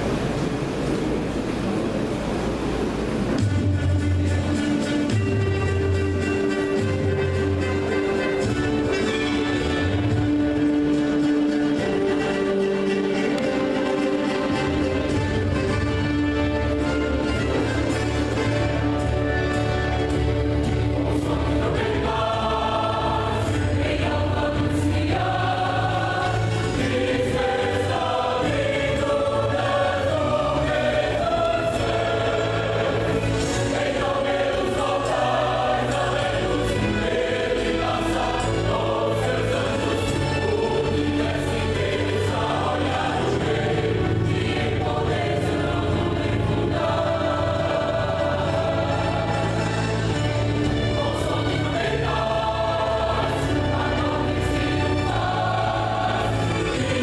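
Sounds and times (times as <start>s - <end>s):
choir singing gospel song: 3.9s - 57.0s.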